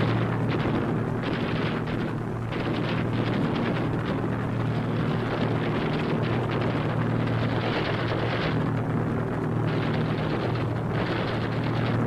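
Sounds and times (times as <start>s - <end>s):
aircraft engines droning: 0.0s - 12.0s.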